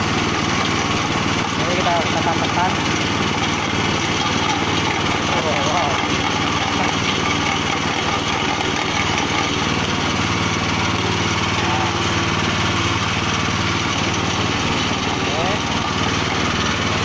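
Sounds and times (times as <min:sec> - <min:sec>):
waste grinding machine running: 0:00.0 - 0:17.0.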